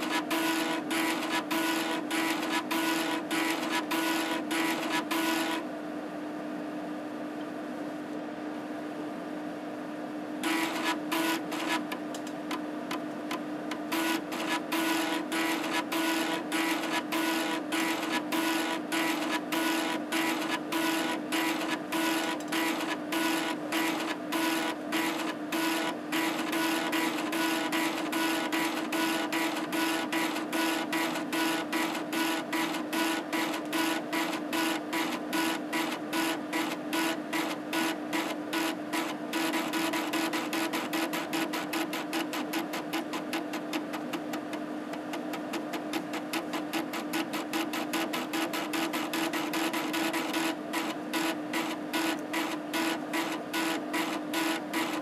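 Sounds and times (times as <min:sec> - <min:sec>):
floppy drive stepper motor chatter: 0:00.0 - 0:05.6, 0:10.4 - 0:55.0.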